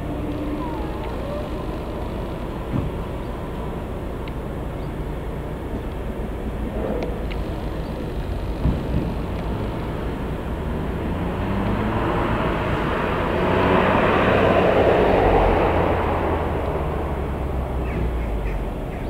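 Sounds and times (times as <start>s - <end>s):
train passing slowly: 0.0s - 19.0s.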